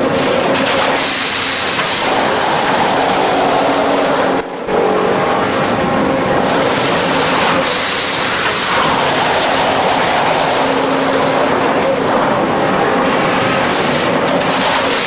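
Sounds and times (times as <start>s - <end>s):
lathe running and cutting: 0.0s - 15.0s
faint hum: 2.0s - 14.1s.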